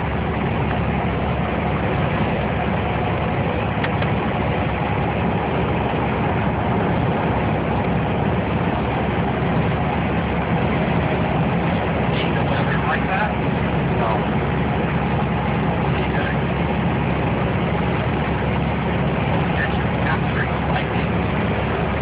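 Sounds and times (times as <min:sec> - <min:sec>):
vehicle engine drone from cabin: 0:00.0 - 0:22.0.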